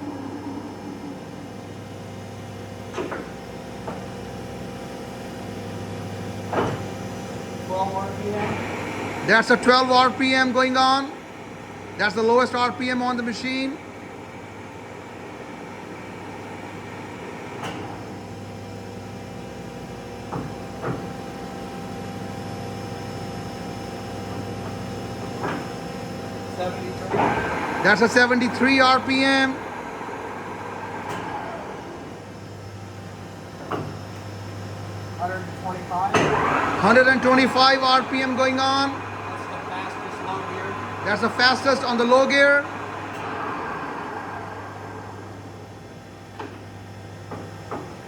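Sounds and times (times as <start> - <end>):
spindle whine: 0.0 - 47.9
lathe drive humming: 0.0 - 48.0.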